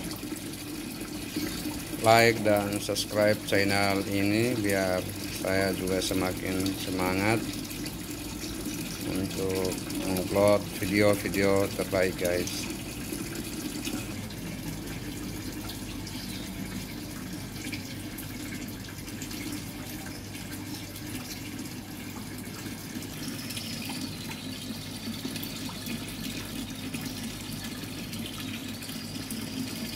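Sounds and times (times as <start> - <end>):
water running into pond: 0.0 - 29.9.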